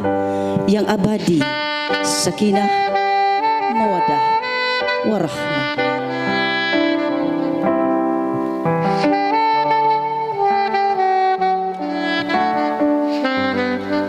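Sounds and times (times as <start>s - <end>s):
sustained backing chords: 0.0s - 14.0s
saxophone slow melody: 1.3s - 14.0s.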